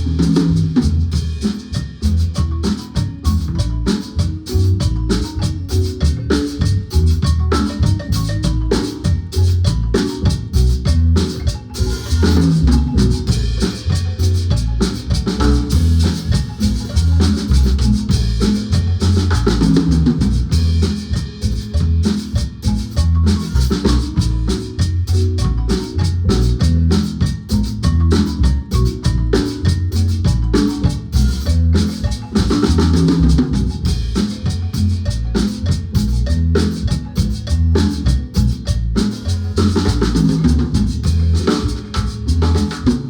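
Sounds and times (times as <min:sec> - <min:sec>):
bass: 0:00.0 - 0:43.0
drum kit beat: 0:00.0 - 0:43.0
marimba band playing: 0:00.0 - 0:43.0.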